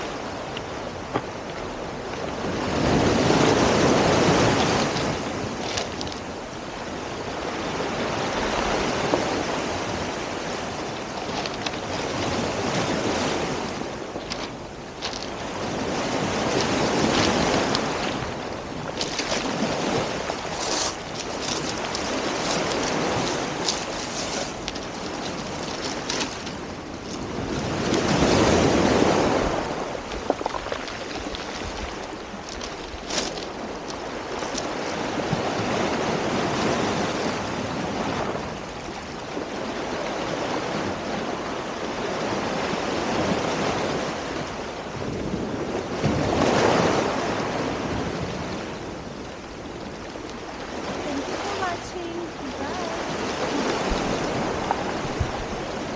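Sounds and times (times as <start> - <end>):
ocean surf breaking: 0.0 - 55.9
wind on microphone: 0.0 - 55.9.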